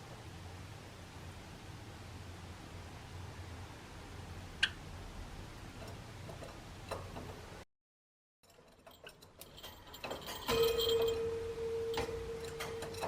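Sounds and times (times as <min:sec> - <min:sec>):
faint room noise: 0:00.0 - 0:07.6, 0:08.4 - 0:13.0.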